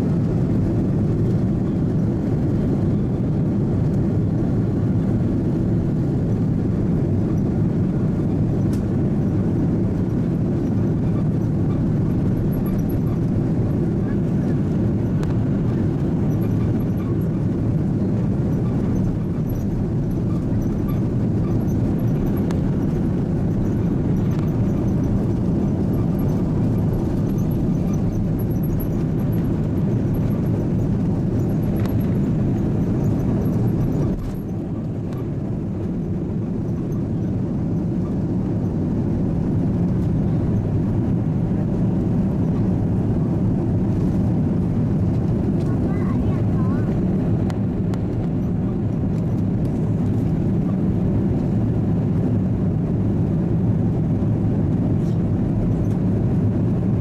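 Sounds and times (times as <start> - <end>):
aircraft engine rumble in cabin: 0.0 - 57.0.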